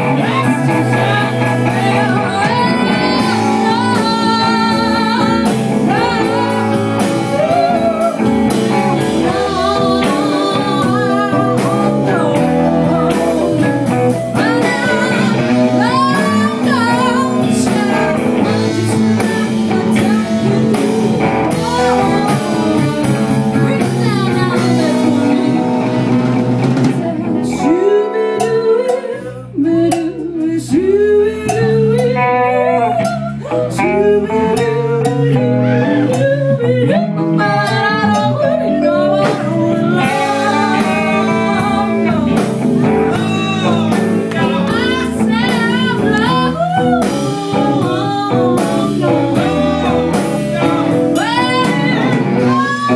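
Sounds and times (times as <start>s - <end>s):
bending guitar notes: 0.0s - 52.9s
live blues band: 0.0s - 52.9s
person singing: 0.0s - 52.9s.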